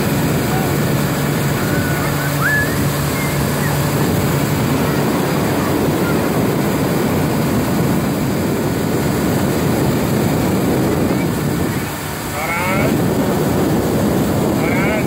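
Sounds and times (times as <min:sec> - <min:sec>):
motorboat engine drone: 0:00.0 - 0:15.0
rushing wind and water: 0:00.0 - 0:15.0.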